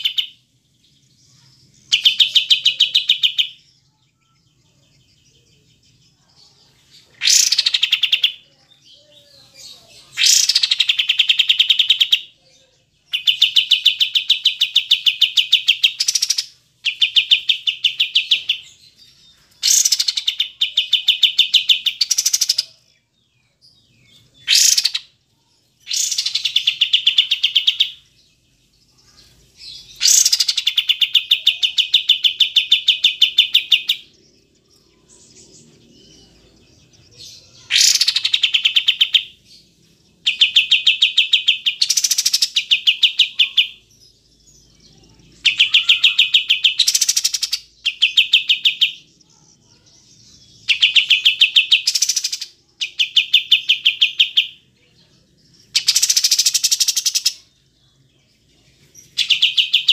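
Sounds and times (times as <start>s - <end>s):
bulbul trilling song: 1.3s - 4.8s, 6.5s - 23.1s, 23.8s - 57.6s, 59.0s - 59.9s.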